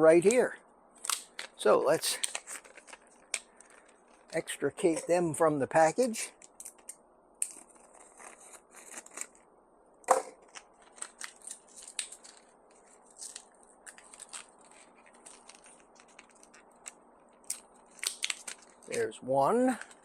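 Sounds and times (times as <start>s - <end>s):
plastic package crinkling: 1.0s - 5.0s, 6.1s - 9.5s, 10.4s - 19.0s.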